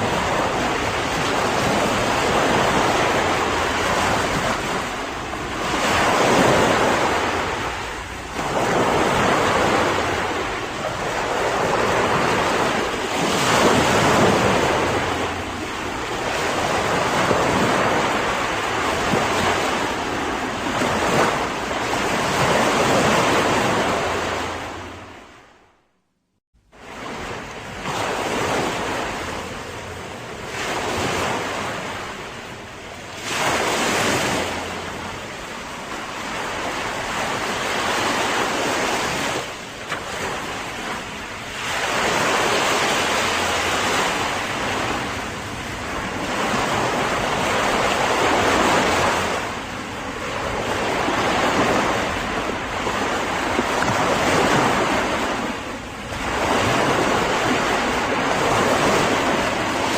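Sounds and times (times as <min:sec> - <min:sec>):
waves breaking: 0:00.0 - 0:25.7, 0:26.6 - 0:59.9.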